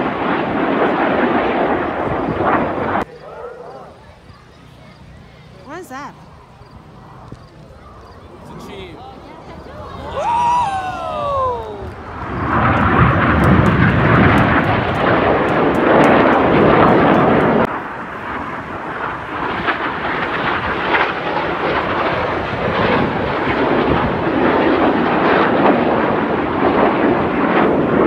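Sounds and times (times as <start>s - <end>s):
jet engines flying overhead: 0.0s - 28.0s.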